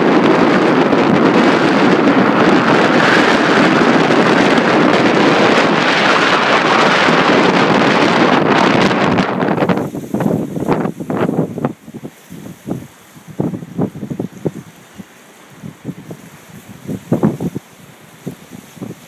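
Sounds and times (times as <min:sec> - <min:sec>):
strong gusty wind on microphone: 0:00.0 - 0:19.0.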